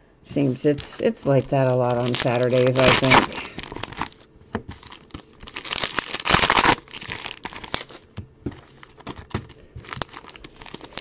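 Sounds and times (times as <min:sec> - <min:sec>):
wrapper crinkling and tearing: 0:00.8 - 0:11.0.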